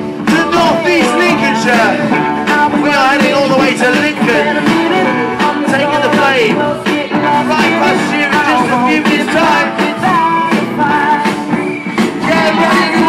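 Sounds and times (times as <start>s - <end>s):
music with sung vocal over loudspeakers: 0.0s - 13.0s.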